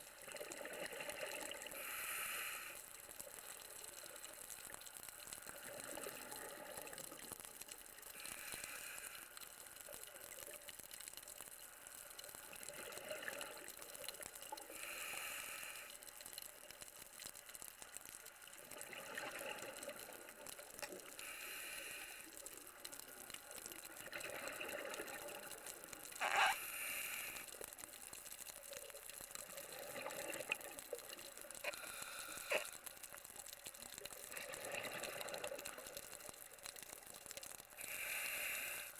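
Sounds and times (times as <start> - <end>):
steady watery hiss: 0.0 - 38.9.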